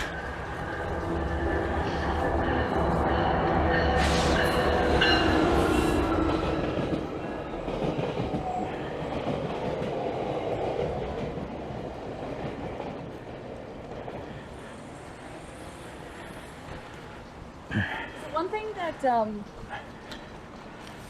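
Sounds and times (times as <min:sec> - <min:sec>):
train clattering on rails: 0:00.0 - 0:21.0.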